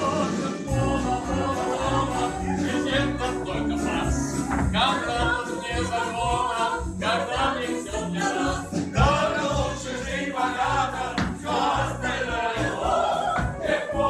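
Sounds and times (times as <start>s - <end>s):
bass accompaniment: 0.0s - 14.0s
voices singing: 0.0s - 14.0s.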